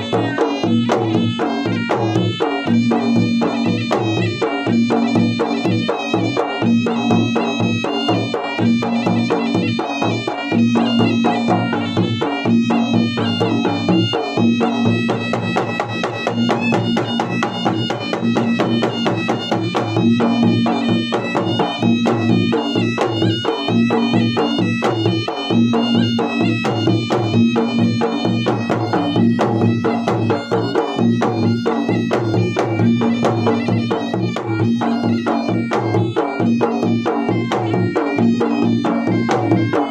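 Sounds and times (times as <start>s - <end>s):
fast drumming: 0.0s - 39.9s
wavering pitched melody: 0.0s - 39.9s.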